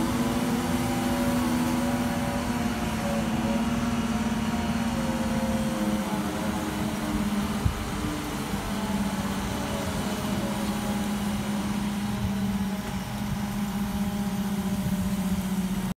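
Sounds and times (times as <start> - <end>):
crane engine humming: 0.0 - 16.0.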